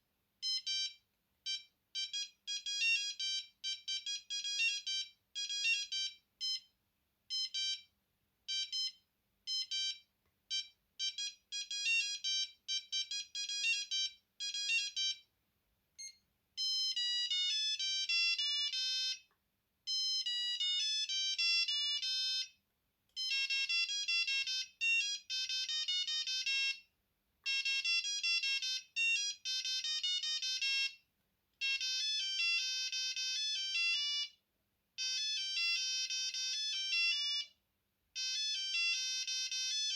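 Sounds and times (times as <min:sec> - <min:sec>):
mobile phone ringtone melodies: 0:00.4 - 0:07.9, 0:08.5 - 0:15.3, 0:16.0 - 0:19.3, 0:19.9 - 0:22.6, 0:23.2 - 0:26.9, 0:27.5 - 0:34.4, 0:35.0 - 0:37.6, 0:38.2 - 0:39.9.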